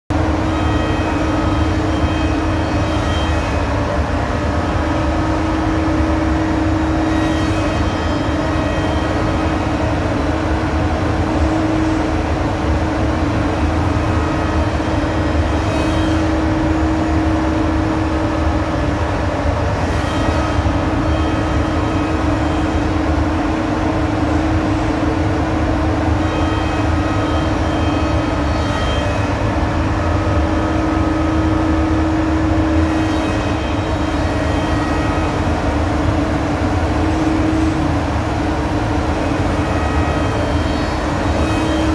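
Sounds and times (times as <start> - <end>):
cnc machine drone: 0.1 - 41.9
high machine whine: 0.1 - 41.9.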